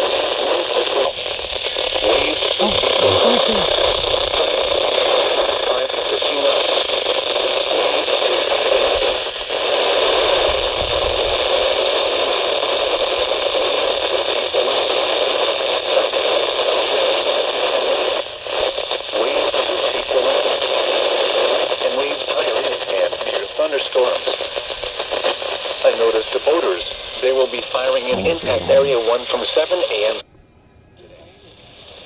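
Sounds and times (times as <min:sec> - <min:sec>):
radio static hiss: 0:00.0 - 0:10.6, 0:11.2 - 0:30.2.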